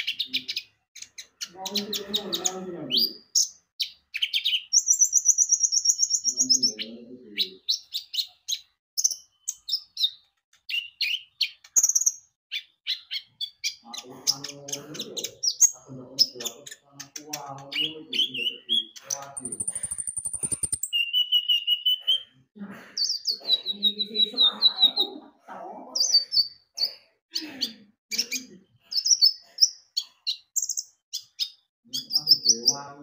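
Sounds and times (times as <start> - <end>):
sunbird chirping and trilling: 0.0 - 22.4, 23.0 - 25.2, 25.9 - 33.0.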